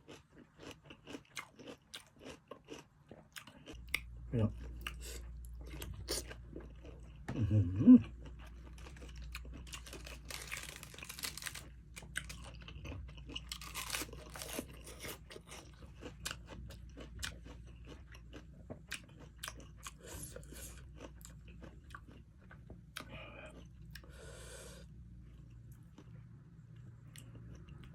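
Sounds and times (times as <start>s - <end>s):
wet chewing and crunching: 0.0s - 24.1s.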